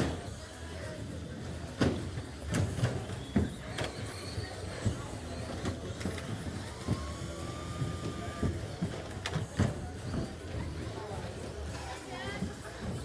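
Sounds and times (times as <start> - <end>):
steady hall hum: 0.0 - 13.0.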